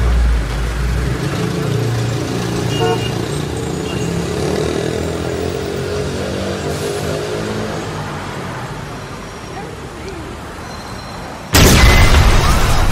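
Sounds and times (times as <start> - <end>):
cars and bus passing: 0.0 - 11.6.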